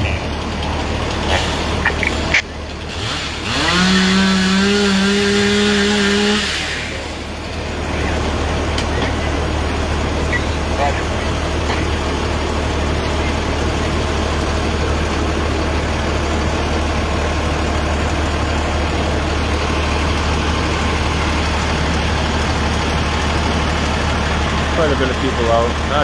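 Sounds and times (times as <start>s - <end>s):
heavy vehicle engine idling: 0.0s - 26.0s.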